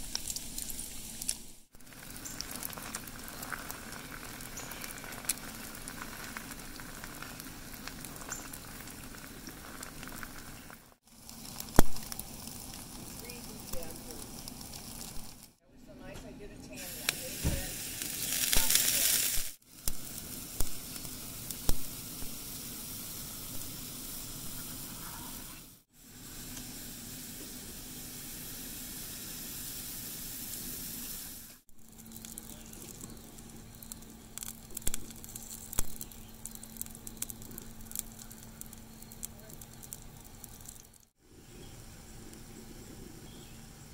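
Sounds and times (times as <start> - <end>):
batter sizzling on a griddle: 0.0 - 15.6, 16.8 - 43.9.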